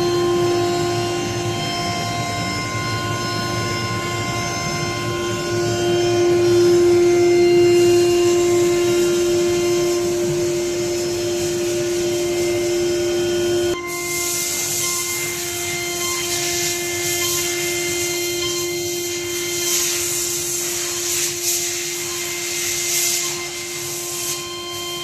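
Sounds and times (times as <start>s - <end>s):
router spindle whining while cutting: 0.0s - 25.0s.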